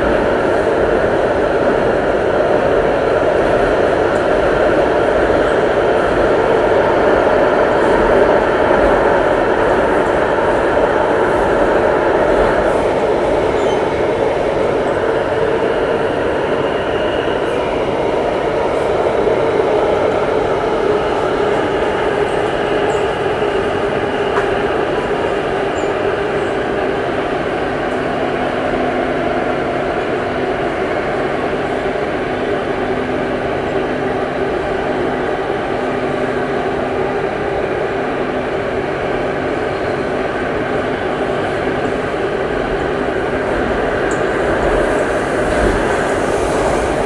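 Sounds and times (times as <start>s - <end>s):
train rumbling in a tunnel: 0.0s - 47.0s.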